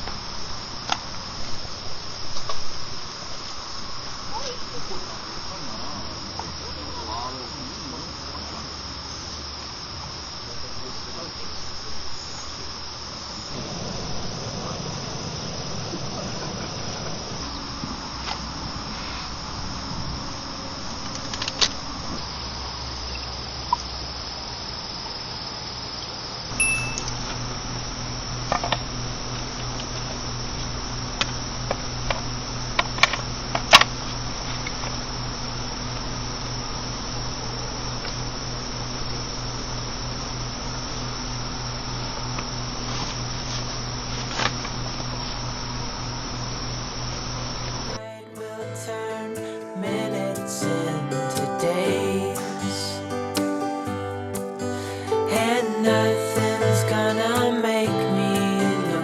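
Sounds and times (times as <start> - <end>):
low steady hum: 0.0 - 48.0
crickets chirring: 0.0 - 59.0.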